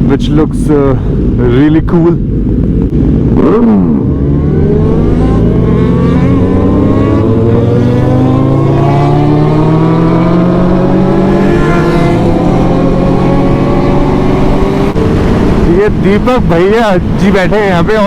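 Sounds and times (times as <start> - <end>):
motorcycle engine accelerating: 1.0 - 17.7.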